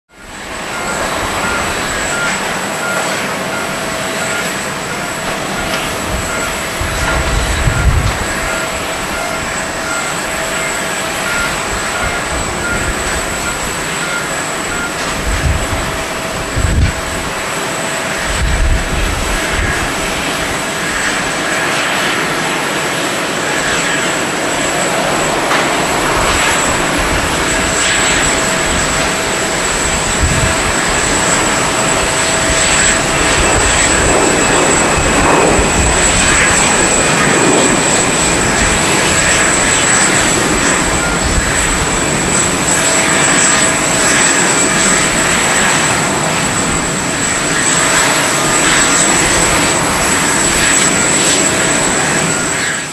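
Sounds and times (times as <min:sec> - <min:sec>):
jet engines roaring at takeoff: 0:00.1 - 0:52.9.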